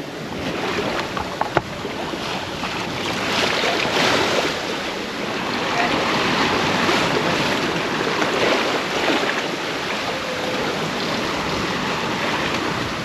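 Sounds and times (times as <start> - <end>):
water rushing along a hull: 0.0 - 13.0
wind buffeting the microphone: 0.0 - 13.0.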